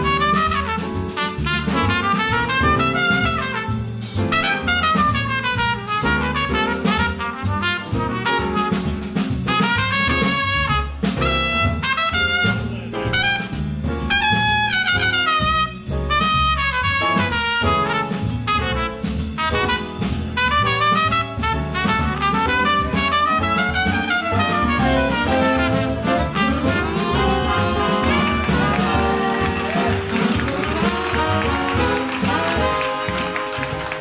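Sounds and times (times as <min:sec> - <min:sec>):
big-band rhythm section: 0:00.0 - 0:34.0
trumpet jazz solo: 0:00.0 - 0:34.0.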